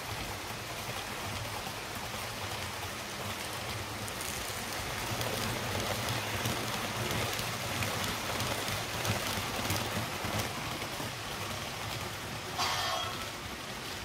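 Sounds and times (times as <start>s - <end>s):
model trains whirring on track: 0.0s - 14.0s.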